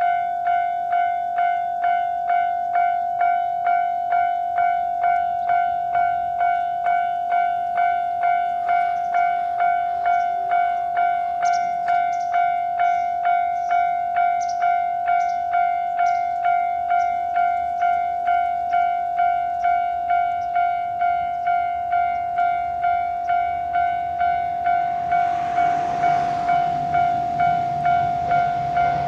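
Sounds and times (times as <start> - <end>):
level-crossing alarm bell: 0.0 - 29.0
passing train rushing: 4.0 - 29.0.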